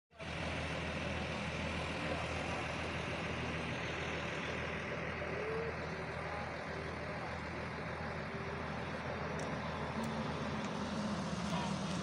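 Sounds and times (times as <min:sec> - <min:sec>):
bus engine idling: 0:00.1 - 0:12.0.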